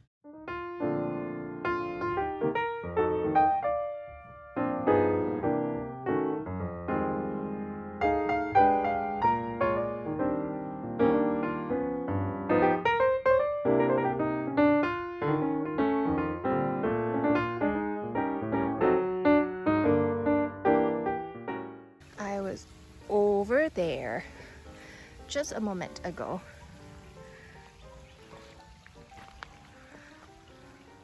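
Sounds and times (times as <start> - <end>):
gentle piano music: 0.0 - 31.0.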